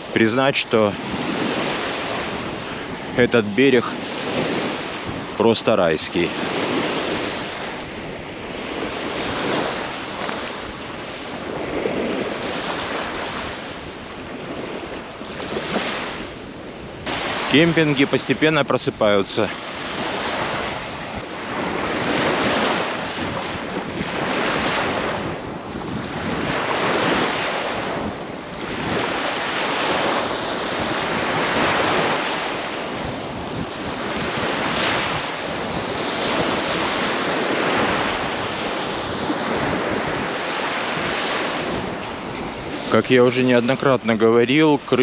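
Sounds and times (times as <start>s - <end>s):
surf breaking on sandy beach: 0.0s - 45.0s.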